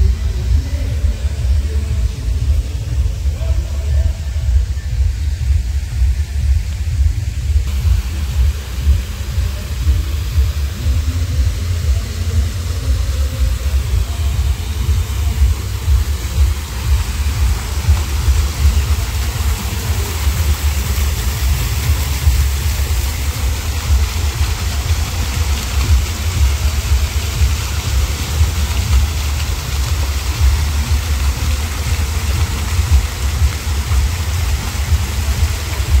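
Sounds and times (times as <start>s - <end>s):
fluttering low rumble: 0.0s - 36.0s
fountain water splashing: 0.0s - 36.0s.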